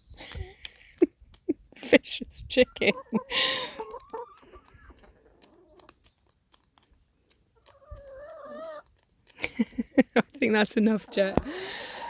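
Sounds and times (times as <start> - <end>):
chickens pecking and scratching: 0.0 - 12.0.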